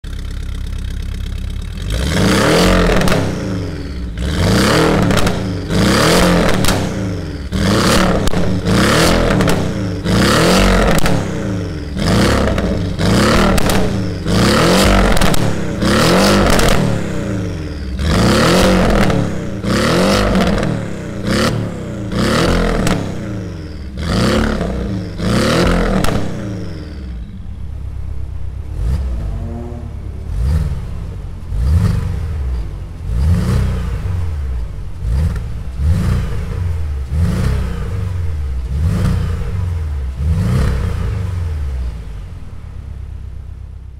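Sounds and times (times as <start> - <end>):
car exhaust revving in blips: 0.0 - 43.9.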